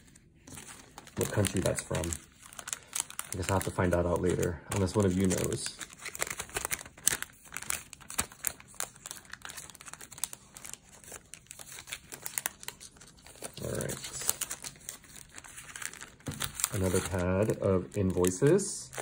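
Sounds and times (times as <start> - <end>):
paper rustling: 0.0 - 19.0
plastic packaging crinkling: 0.0 - 19.0.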